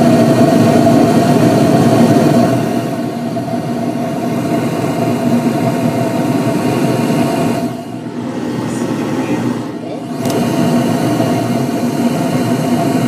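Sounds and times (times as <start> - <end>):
draft inducer motor humming: 0.0 - 13.0
gas burners firing: 0.0 - 13.0.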